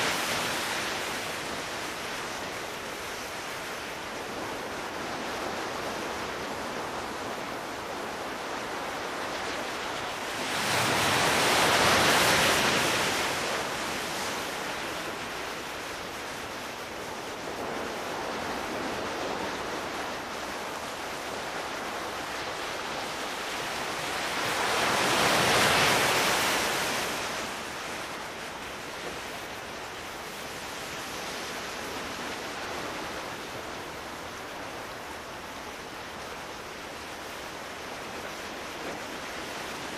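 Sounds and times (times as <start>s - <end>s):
surf hiss: 0.0s - 39.9s
waves breaking: 0.0s - 39.9s.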